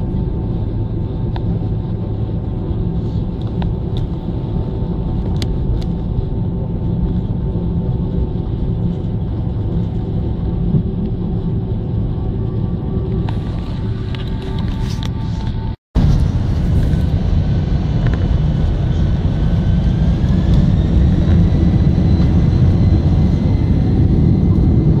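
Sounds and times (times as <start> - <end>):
airliner engine rumble: 0.0 - 25.0
constant hum tone: 0.0 - 25.0.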